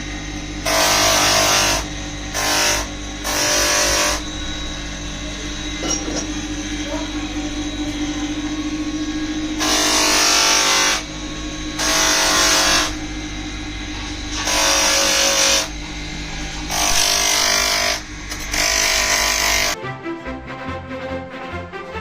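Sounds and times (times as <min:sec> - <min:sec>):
harsh tool grinding noise: 0:00.0 - 0:19.8
power tool motor humming: 0:00.0 - 0:19.8.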